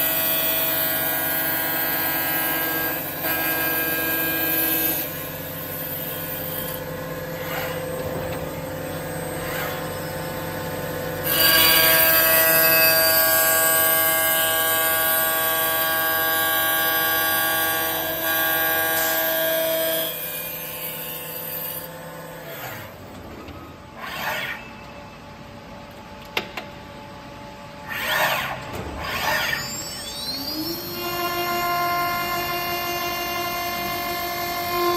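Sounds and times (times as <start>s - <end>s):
machine whine: 0.0s - 34.9s.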